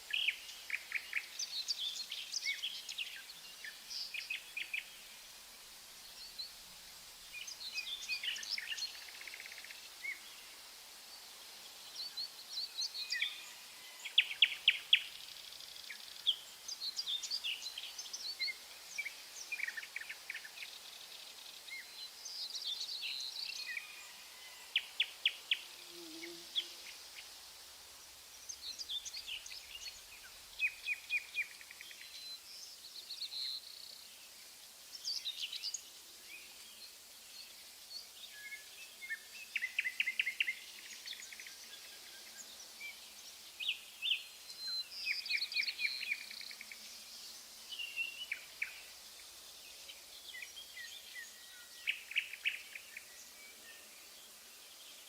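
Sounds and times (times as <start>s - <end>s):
outdoor background hiss: 0.0s - 55.0s
songbirds chirping and trilling: 0.0s - 55.0s.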